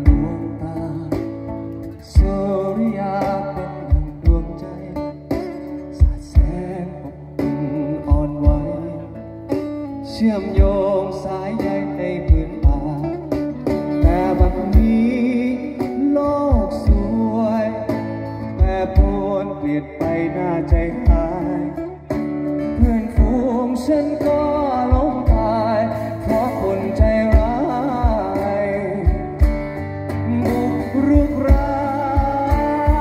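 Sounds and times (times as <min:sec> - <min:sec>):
acoustic guitars through speakers: 0:00.0 - 0:33.0
low thumps on the beat: 0:00.0 - 0:33.0
person singing: 0:00.0 - 0:33.0.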